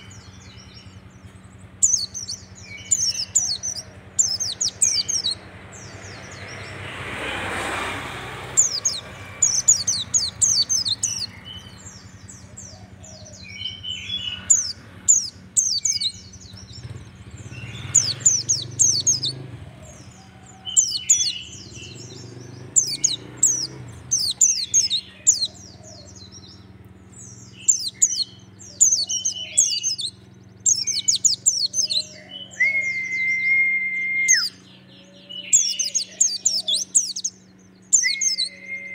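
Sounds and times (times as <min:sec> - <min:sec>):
bird chirping rapidly: 0:00.0 - 0:07.7, 0:08.3 - 0:38.9.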